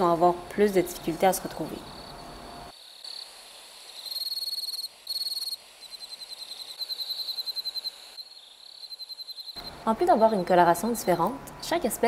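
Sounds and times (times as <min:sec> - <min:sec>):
crickets chirping: 0:01.0 - 0:11.2.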